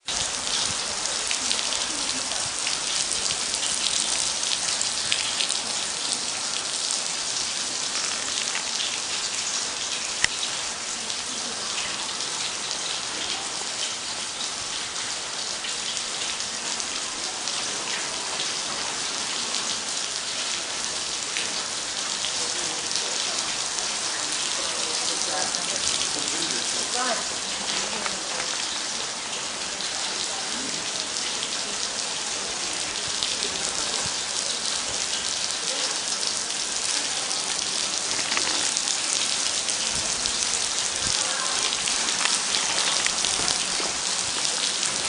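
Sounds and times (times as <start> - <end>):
water falling as patter of drops: 0.0 - 45.0.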